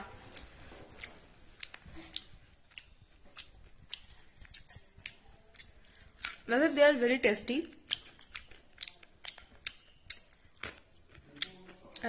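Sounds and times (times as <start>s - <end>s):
chickpeas crunching: 0.3s - 6.5s, 7.6s - 12.0s.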